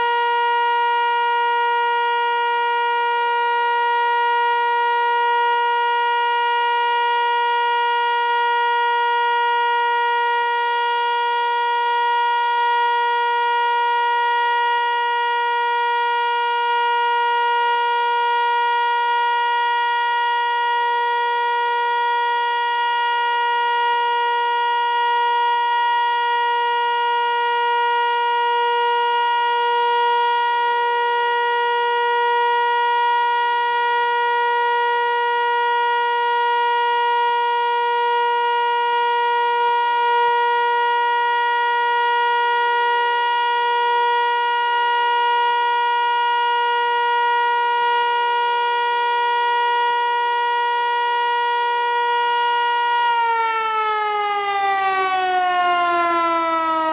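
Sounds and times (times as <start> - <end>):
warning siren steady tone: 0.0 - 56.9.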